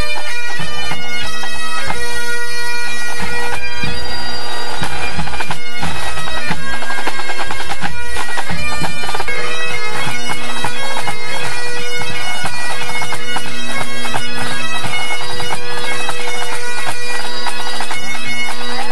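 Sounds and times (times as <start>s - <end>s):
bagpipe chanter melody: 0.0s - 18.9s
bagpipe drones: 0.0s - 18.9s.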